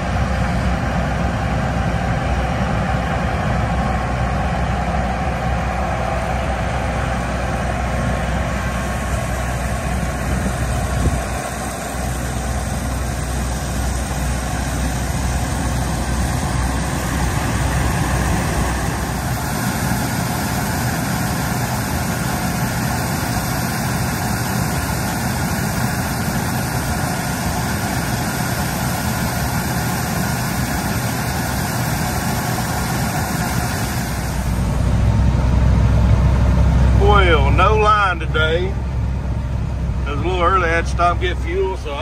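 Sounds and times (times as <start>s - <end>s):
truck diesel engine running: 0.0s - 42.0s.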